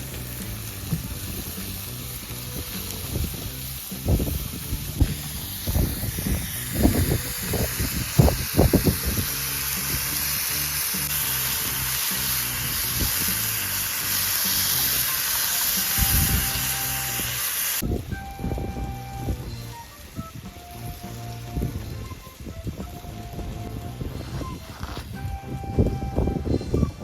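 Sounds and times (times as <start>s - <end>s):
background music: 0.0s - 27.0s
food sizzling on a grill: 0.0s - 27.0s.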